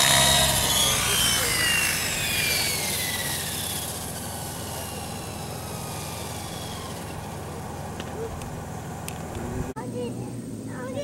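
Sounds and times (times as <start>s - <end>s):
model helicopter rotor whine: 0.0s - 11.0s.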